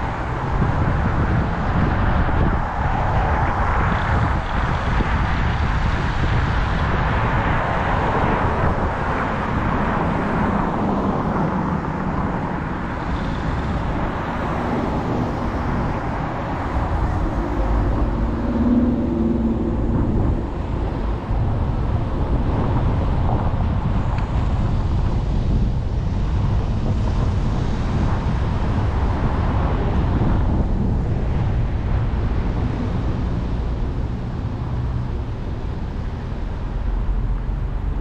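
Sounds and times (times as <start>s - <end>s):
car road and wind noise: 0.0s - 38.0s.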